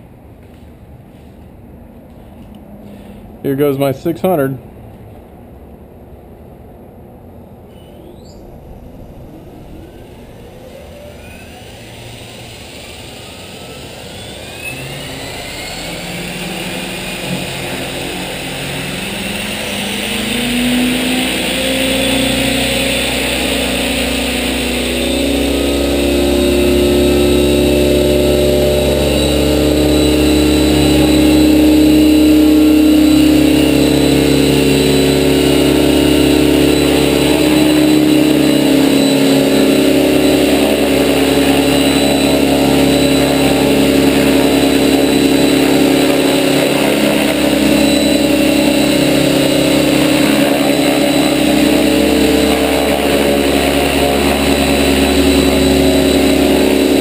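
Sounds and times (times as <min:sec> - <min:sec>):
helicopter rotor hum: 0:02.0 - 0:04.8, 0:07.5 - 0:57.0
electric motor whine: 0:08.4 - 0:57.0.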